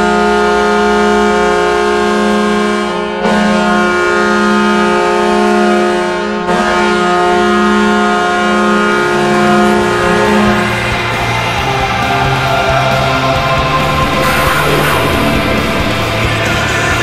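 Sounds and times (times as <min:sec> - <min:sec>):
goal horn blowing: 0:00.0 - 0:17.0.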